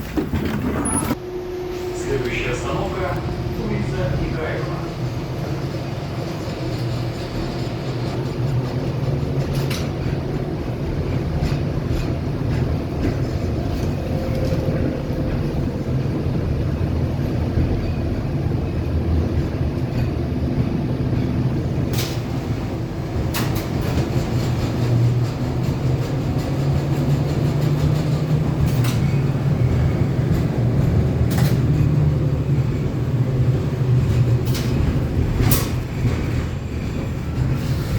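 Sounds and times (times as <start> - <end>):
tram rumbling on rails: 0.0 - 37.9.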